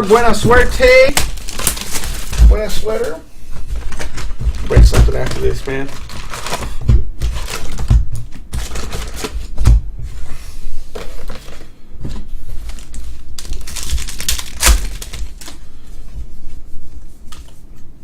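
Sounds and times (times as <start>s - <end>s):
wrapping and cardboard rustling and tearing: 0.0s - 16.1s.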